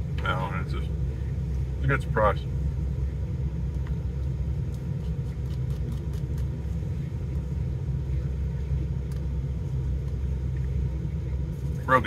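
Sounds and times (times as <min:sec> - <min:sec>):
car idling: 0:00.0 - 0:12.0.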